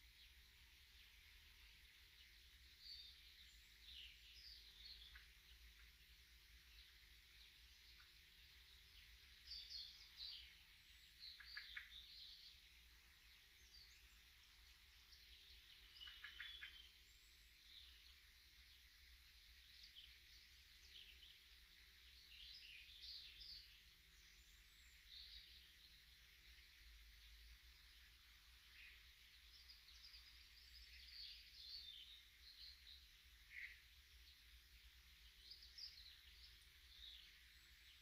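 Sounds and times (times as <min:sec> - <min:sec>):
faint steady hiss: 0:00.0 - 0:38.0
small birds chirping: 0:00.0 - 0:38.0.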